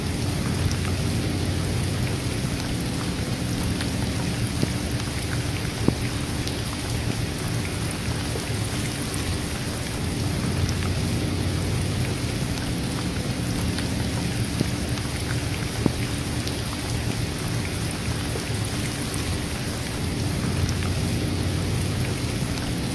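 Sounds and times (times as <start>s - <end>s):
sharp drips: 0.0s - 22.9s
steady rain: 0.0s - 22.9s.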